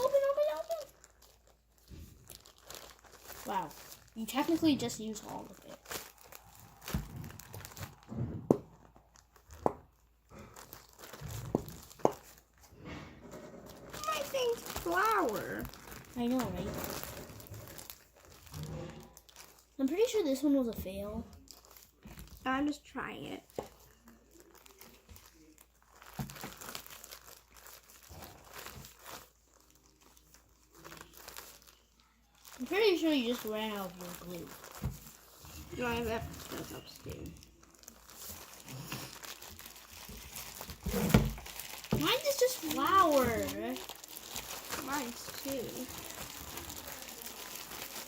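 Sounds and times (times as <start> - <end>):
plastic bag crinkling: 0.0 - 48.0.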